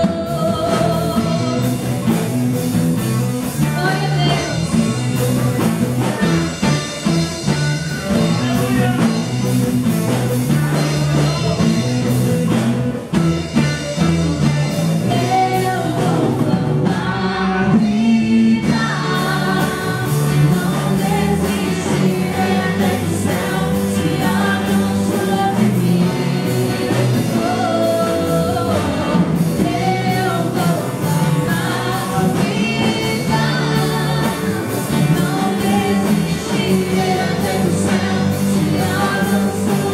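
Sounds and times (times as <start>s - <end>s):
worship song with rock band: 0.0s - 39.9s.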